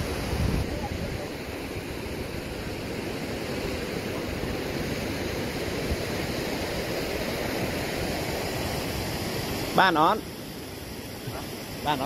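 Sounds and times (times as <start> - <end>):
floodwater rushing past spillway: 0.0 - 12.0.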